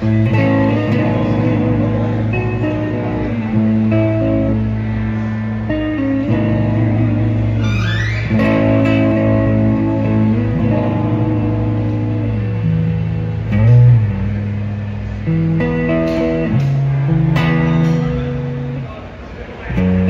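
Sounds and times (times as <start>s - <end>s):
electric guitar notes: 0.0s - 20.0s.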